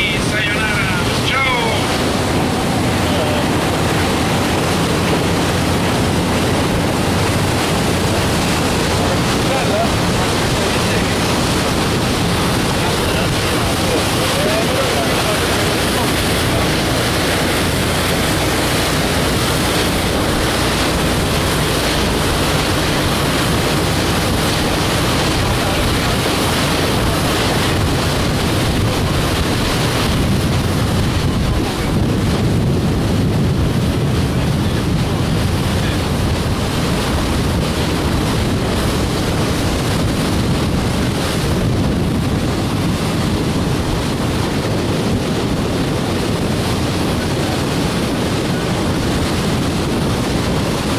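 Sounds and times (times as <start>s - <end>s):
boat engine: 0.0s - 50.9s
rushing water: 0.0s - 50.9s
wind noise on microphone: 0.0s - 50.9s.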